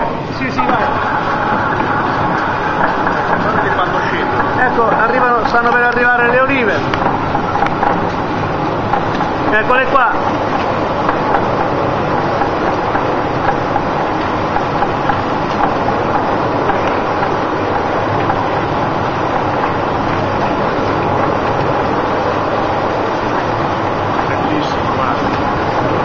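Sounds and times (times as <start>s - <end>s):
mill machinery running: 0.0s - 26.0s.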